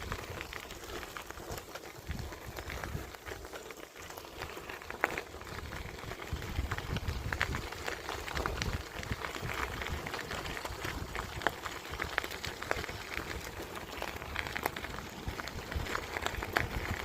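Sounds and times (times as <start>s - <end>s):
wind rumble on microphone: 0.0s - 3.4s, 4.4s - 17.0s
bicycle tyres crackling and ticking: 0.0s - 17.0s.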